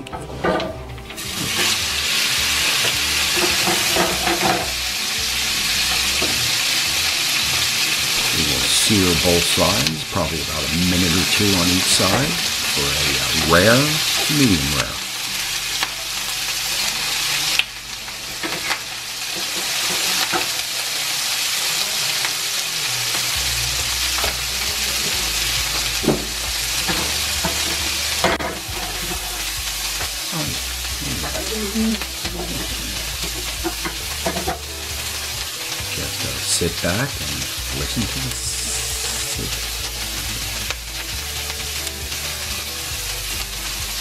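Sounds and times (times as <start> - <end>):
meat sizzling in frying pan: 0.0 - 44.0
oil popping and crackling: 0.0 - 44.0.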